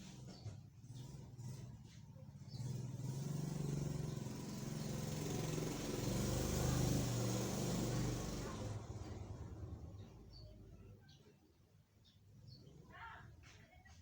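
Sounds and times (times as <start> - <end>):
vehicle engine passing by: 0.0 - 11.2.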